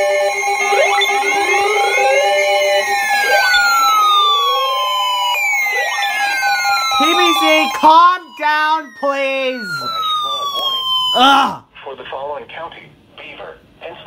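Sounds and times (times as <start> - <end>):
electronic siren tones: 0.0 - 11.5.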